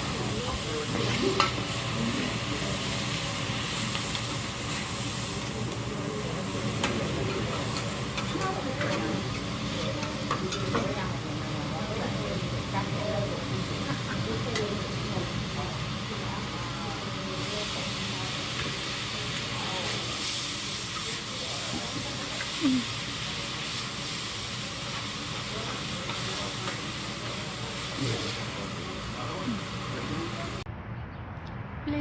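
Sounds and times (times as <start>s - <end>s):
food sizzling on a griddle: 0.0s - 30.7s
restaurant chatter: 0.0s - 30.7s.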